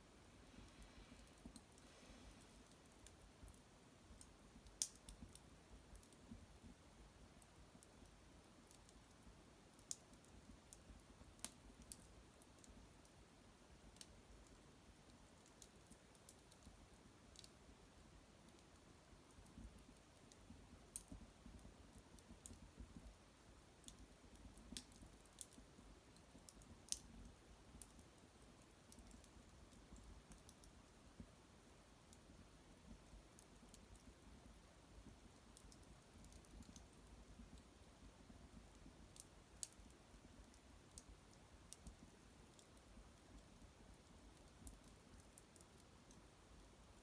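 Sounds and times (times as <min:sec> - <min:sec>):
small wood fire crackling: 0:00.0 - 0:47.0
fire pops and ticks: 0:00.6 - 0:06.8, 0:07.4 - 0:46.7.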